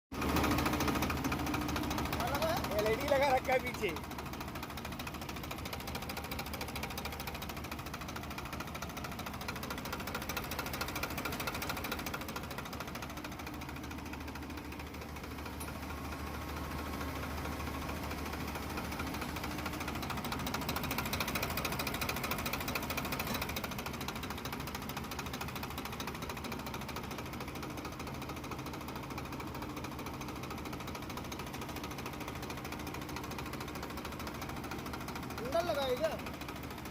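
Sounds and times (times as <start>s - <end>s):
tractor diesel engine knocking: 0.1s - 36.9s.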